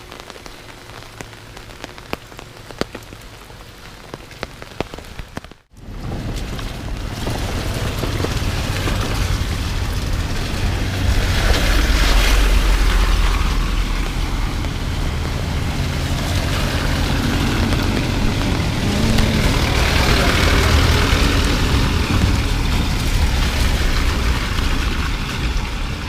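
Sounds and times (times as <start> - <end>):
rain hiss: 0.0 - 26.0
vehicle engine rumbling: 0.0 - 26.0.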